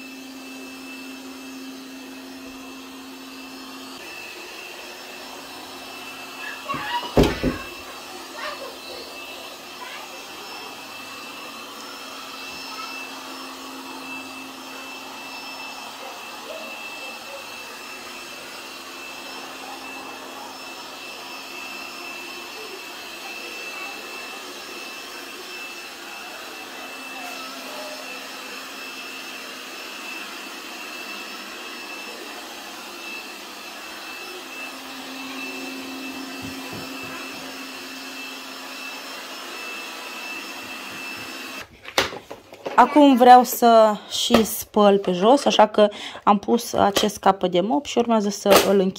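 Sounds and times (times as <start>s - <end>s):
robot vacuum cleaner whirring: 0.0s - 45.7s.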